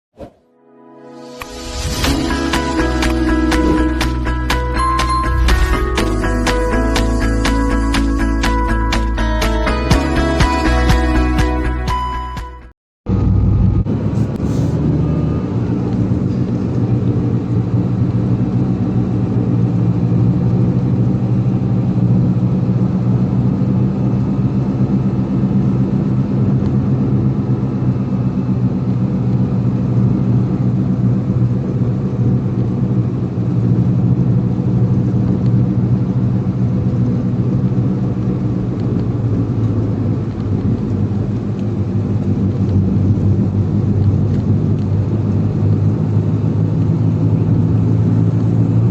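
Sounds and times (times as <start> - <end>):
road noise: 1.2 - 12.2, 13.1 - 48.9
vehicle engine drone: 1.3 - 12.3, 13.1 - 48.9.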